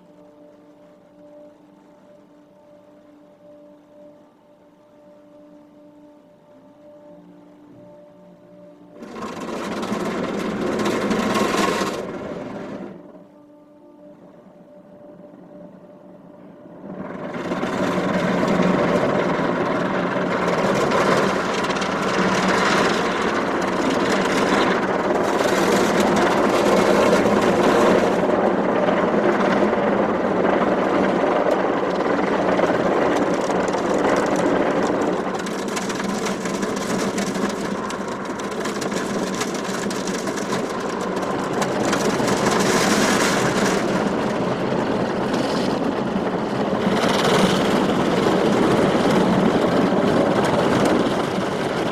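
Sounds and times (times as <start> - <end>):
car wash machinery rushing: 7.8 - 13.2, 14.2 - 51.9.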